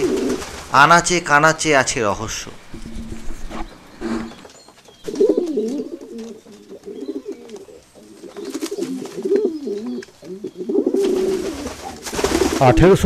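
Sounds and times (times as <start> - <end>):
pigeons cooing: 0.0 - 0.7, 2.3 - 13.0.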